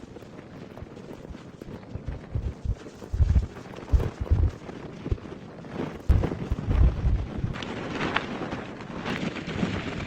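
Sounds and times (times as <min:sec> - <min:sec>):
gusting wind buffeting microphone: 0:00.0 - 0:10.0.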